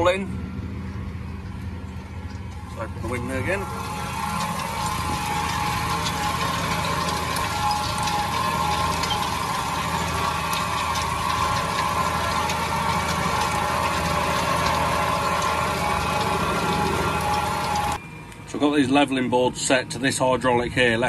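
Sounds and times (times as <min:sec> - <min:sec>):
tractor diesel engine under load: 0:02.5 - 0:21.0.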